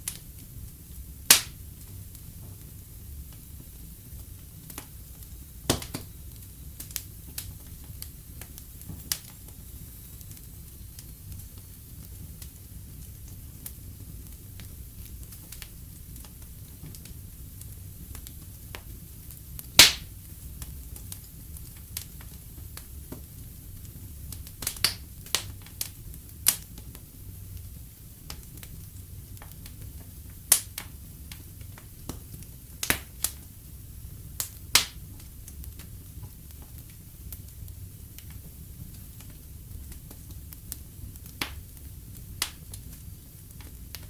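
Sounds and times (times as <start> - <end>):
fire crackling and popping: 0.0 - 44.0.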